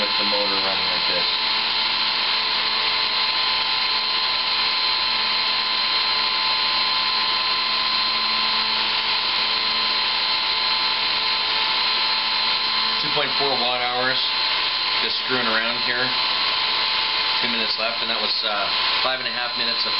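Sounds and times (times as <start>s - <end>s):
electric motor whine: 0.0s - 19.9s.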